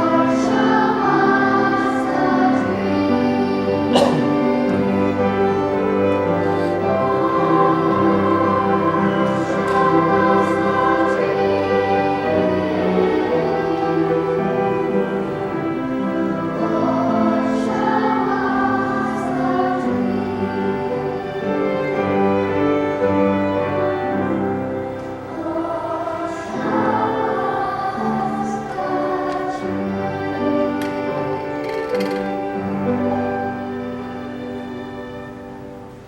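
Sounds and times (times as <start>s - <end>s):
children's choir singing: 0.0s - 36.0s.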